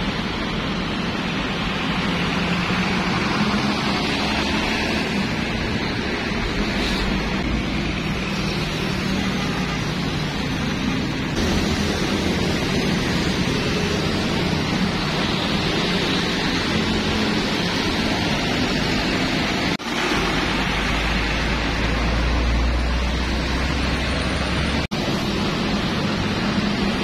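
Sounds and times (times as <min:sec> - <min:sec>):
bus diesel engines pulling away: 0:00.0 - 0:27.0
steady traffic noise: 0:00.0 - 0:27.0.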